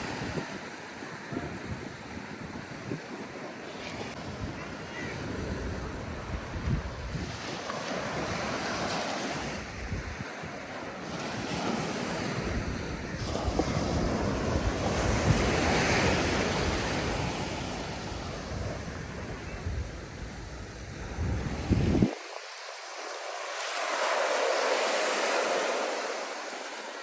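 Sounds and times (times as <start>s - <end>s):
wind buffeting the microphone: 0.0s - 22.6s
sea surf washing ashore: 0.0s - 27.0s.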